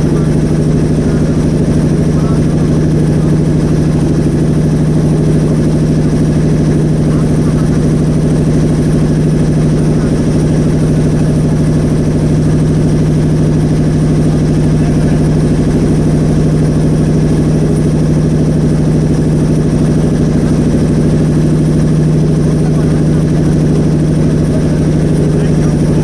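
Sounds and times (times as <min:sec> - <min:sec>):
motor boat engine running: 0:00.0 - 0:26.0.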